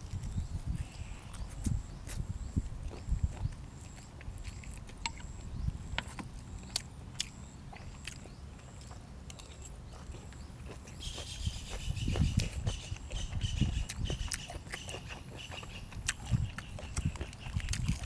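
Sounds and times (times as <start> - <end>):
chewing and mouth smacking: 0.0 - 18.0.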